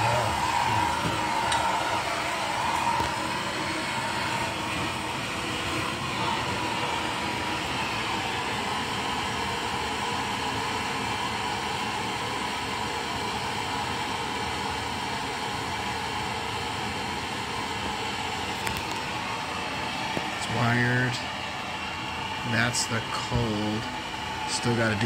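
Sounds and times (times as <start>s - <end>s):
gas torch hissing: 0.0s - 25.0s.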